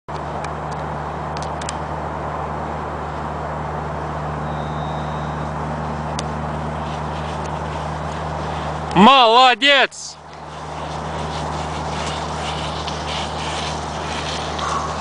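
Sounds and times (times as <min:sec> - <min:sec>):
motor vehicle droning: 0:00.1 - 0:15.0.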